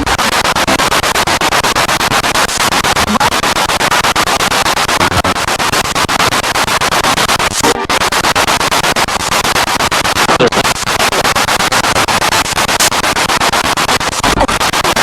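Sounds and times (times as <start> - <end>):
pulsing radio static: 0.0 - 15.0.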